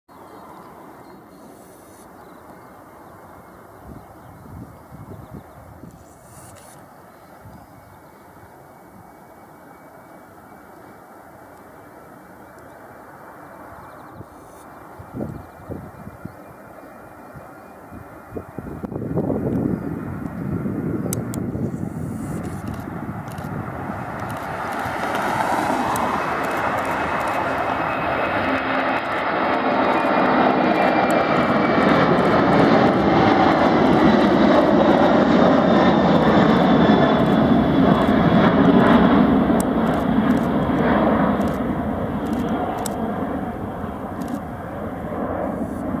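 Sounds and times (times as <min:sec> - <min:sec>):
jet engines at takeoff: 0:00.1 - 0:46.0.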